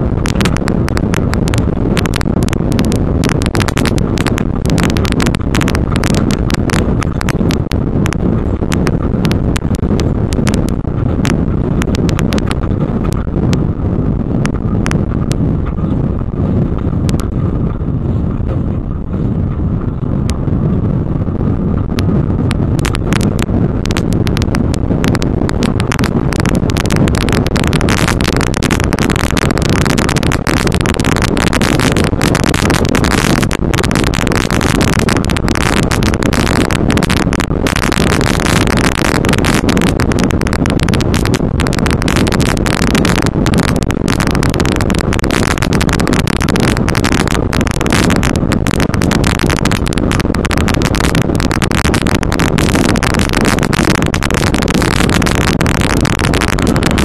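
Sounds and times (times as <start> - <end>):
vehicle engine and drivetrain noise: 0.0 - 57.0.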